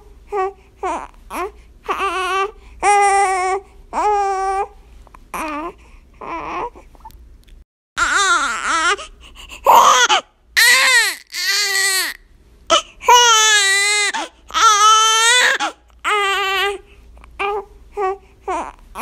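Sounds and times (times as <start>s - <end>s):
infant crying: 0.3s - 4.8s, 5.4s - 6.9s, 8.0s - 19.0s.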